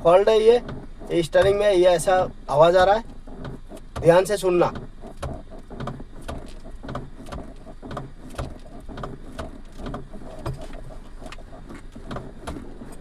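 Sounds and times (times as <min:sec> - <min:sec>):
steering column knocking: 0:00.0 - 0:13.0.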